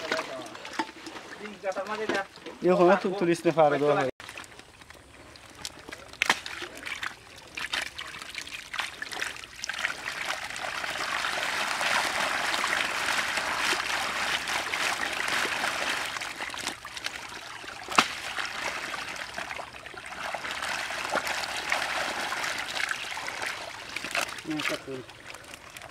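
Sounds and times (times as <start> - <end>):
basket splashing through water: 4.2 - 25.9.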